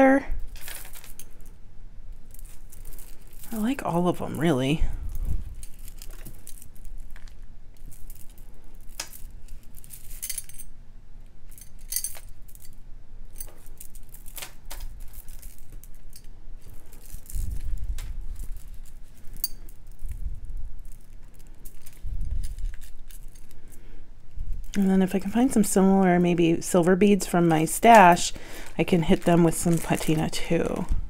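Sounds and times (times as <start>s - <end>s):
beads clicking and clinking: 0.4s - 31.0s.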